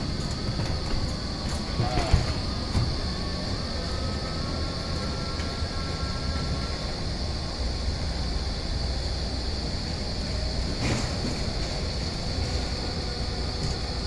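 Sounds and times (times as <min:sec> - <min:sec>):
faint whine: 0:00.0 - 0:14.0
machinery rumble: 0:00.0 - 0:14.0.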